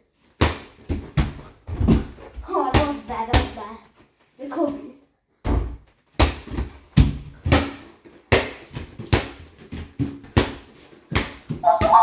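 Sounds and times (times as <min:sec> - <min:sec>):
basketball bouncing on floor: 0:00.5 - 0:03.6, 0:05.4 - 0:12.0.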